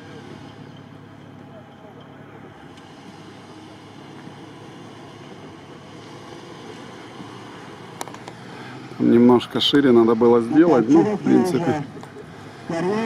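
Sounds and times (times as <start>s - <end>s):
distant car engine running: 0.0s - 13.0s.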